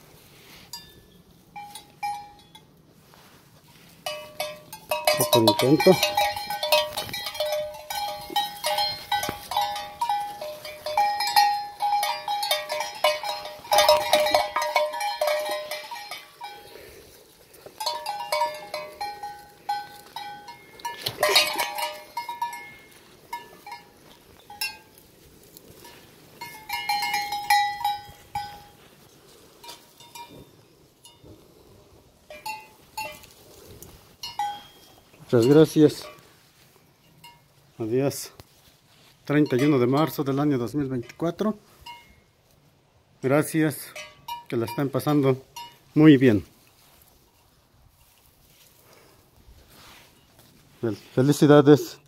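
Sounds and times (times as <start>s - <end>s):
sheep bell clanking: 0.7s - 2.8s, 3.7s - 36.4s, 37.0s - 37.6s, 39.0s - 42.4s, 43.2s - 46.5s.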